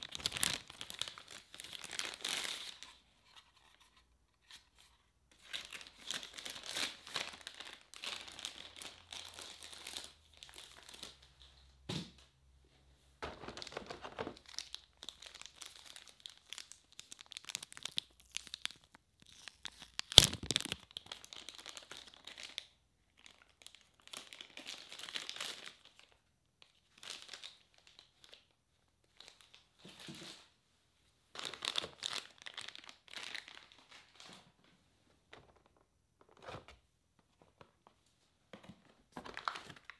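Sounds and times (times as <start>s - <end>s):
plastic packaging crinkling and tearing: 0.0s - 11.5s, 13.2s - 30.4s, 31.4s - 34.4s, 39.2s - 39.9s.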